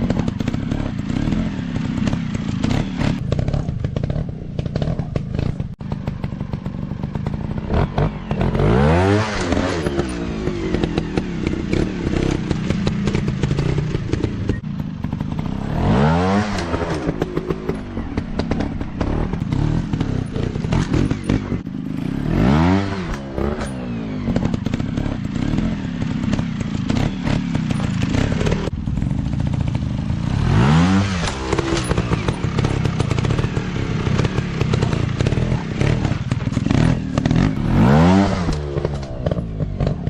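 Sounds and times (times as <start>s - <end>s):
engine clattering and knocking: 0.0s - 16.0s, 16.6s - 21.7s, 23.1s - 40.0s
dirt bike engine revving: 0.0s - 40.0s.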